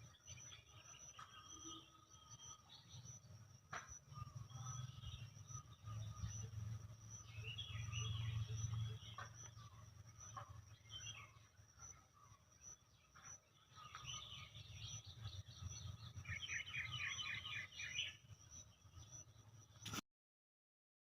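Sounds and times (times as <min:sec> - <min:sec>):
birds chirping and calling: 0:00.0 - 0:19.9
high insect chirp: 0:00.0 - 0:20.0.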